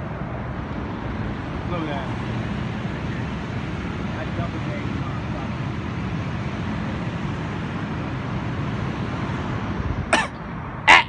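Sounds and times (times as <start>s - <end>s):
city traffic rumble and hiss: 0.0s - 11.0s.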